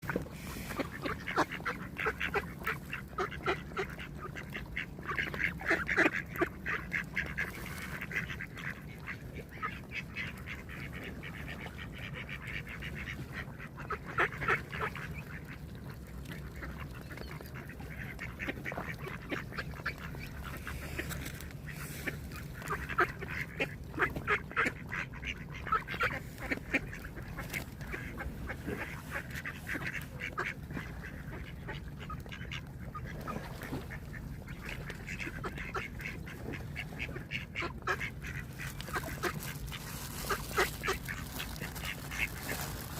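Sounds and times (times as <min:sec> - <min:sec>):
ducks quacking: 0:00.0 - 0:42.9.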